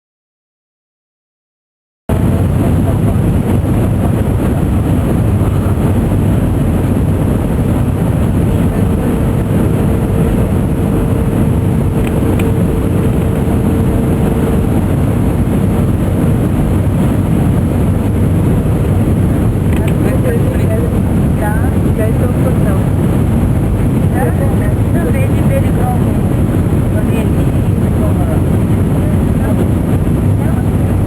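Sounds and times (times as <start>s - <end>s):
airplane engine roar in cabin: 2.1s - 31.0s.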